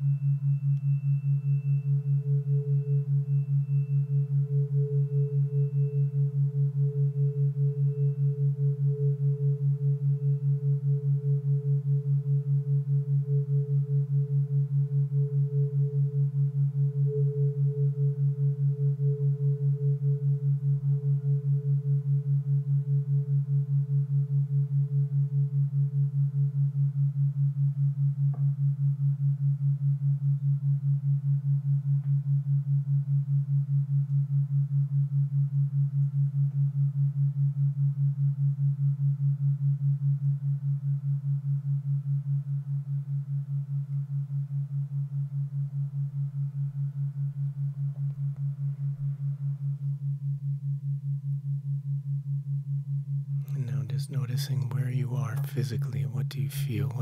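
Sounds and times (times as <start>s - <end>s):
tuning fork ringing: 0.0s - 53.7s
pulsing low tone: 0.0s - 57.0s.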